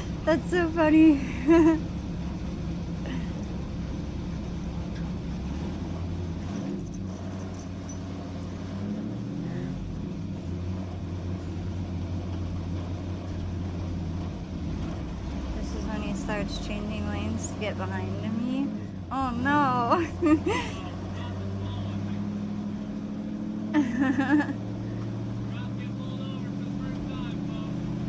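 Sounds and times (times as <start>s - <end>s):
truck engine cruising: 0.0s - 28.0s.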